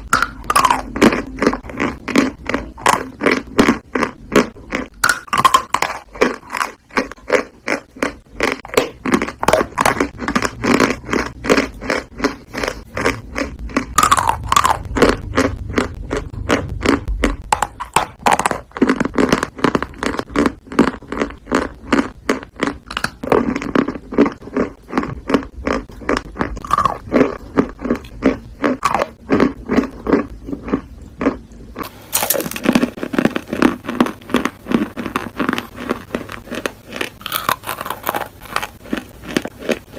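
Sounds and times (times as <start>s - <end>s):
chalk being bitten and chewed: 0.0s - 39.9s.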